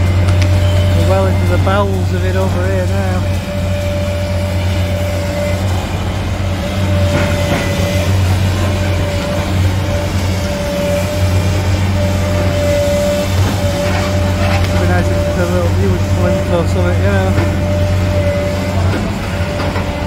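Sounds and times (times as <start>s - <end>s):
excavator engine and hydraulic drone: 0.0s - 20.0s
thin whine: 0.0s - 20.0s.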